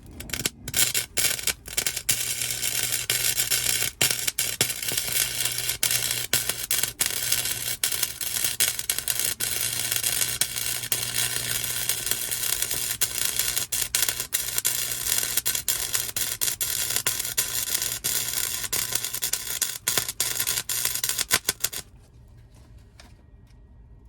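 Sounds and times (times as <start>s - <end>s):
welding arc sizzling crackle: 0.0s - 21.9s.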